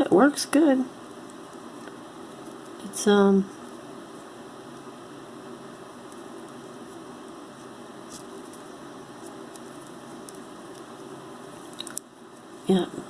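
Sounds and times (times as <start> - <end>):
background hiss and hum: 0.0 - 13.0.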